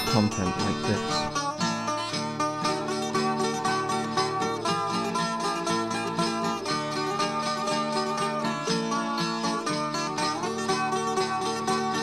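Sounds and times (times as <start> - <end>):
plucked string tune: 0.0 - 12.0.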